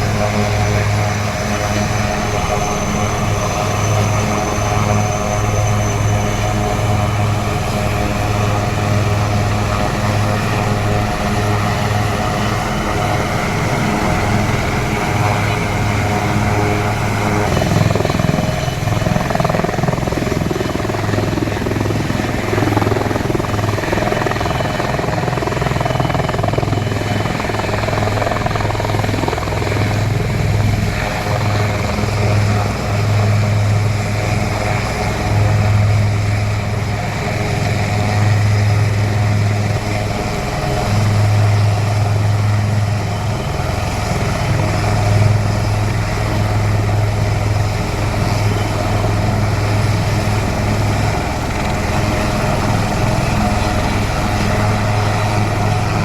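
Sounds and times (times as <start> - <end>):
helicopter rotor throbbing: 0.0 - 56.0.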